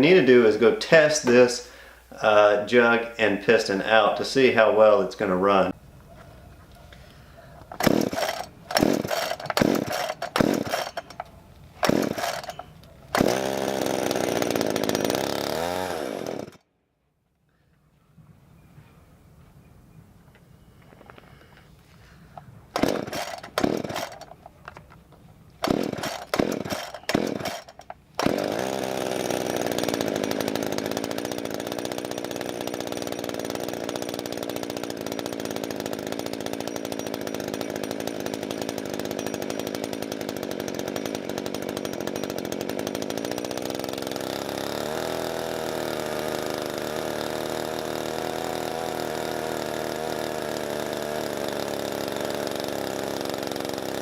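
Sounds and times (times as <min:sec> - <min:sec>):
chainsaw pull cord: 0:00.0 - 0:02.9, 0:05.5 - 0:16.6, 0:22.3 - 0:54.0
chainsaw engine running: 0:00.0 - 0:16.6, 0:21.1 - 0:25.0, 0:25.6 - 0:54.0.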